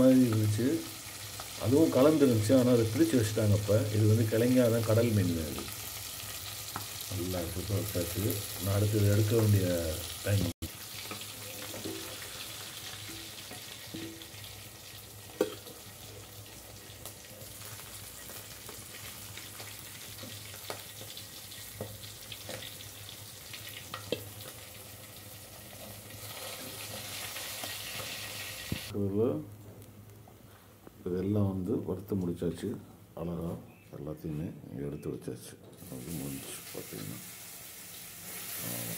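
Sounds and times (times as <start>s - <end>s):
fish sizzling in oil: 0.0s - 28.9s, 35.8s - 38.9s.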